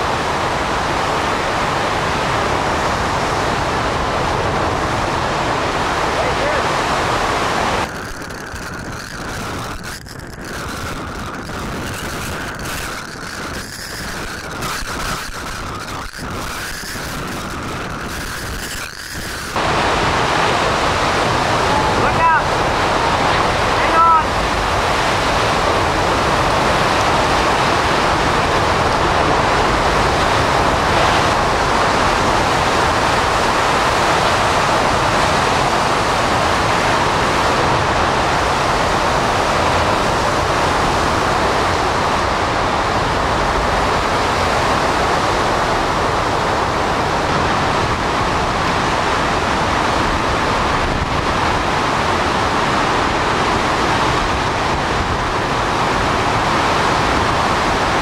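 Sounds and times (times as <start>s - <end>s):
strong wind with driving rain: 0.0s - 58.0s.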